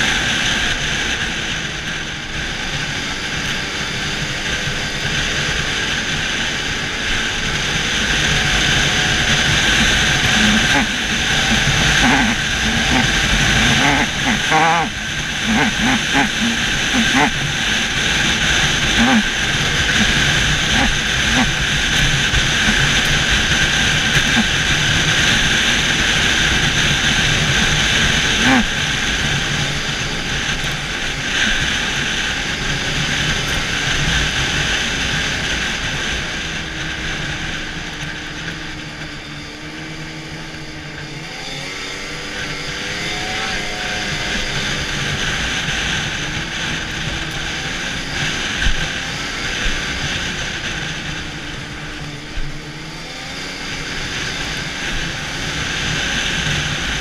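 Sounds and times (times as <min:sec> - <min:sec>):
snowmobile engine whine: 0:00.0 - 0:57.0.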